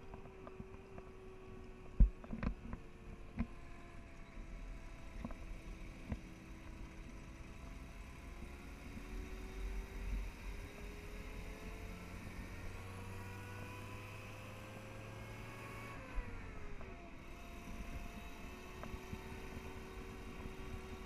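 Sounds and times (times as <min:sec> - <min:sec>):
armoured car engine whine: 0:00.0 - 0:21.0.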